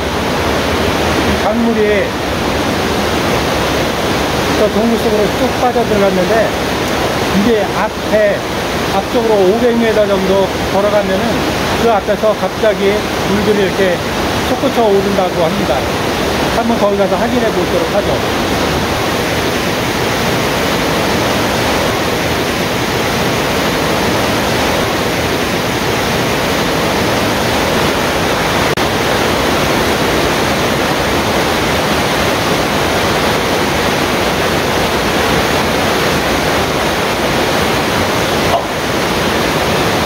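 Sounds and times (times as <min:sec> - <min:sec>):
river rushing over boulders: 0:00.0 - 0:40.0.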